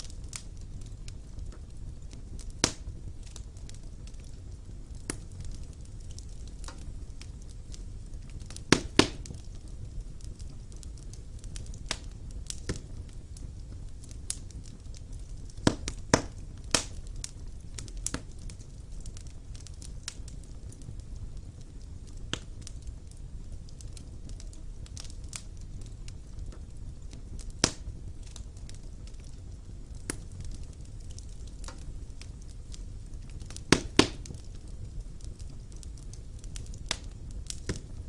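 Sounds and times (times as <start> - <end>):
fire crackling: 0.0 - 38.0
low steady rumble: 0.0 - 38.0
sharp pops of fire: 0.0 - 38.0.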